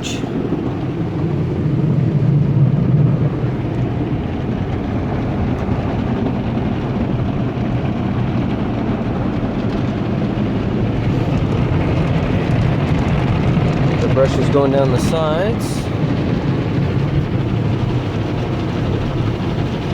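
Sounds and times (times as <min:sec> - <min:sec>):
car wash spray and brushes: 0:00.0 - 0:19.9.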